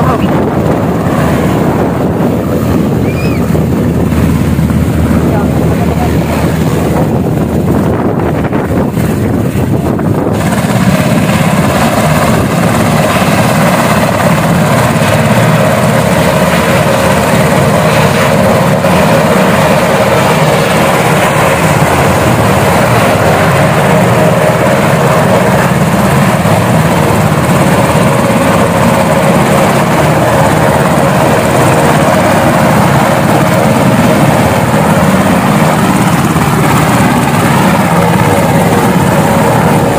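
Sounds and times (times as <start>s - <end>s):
helicopter turbines and rotors: 0.0s - 39.9s.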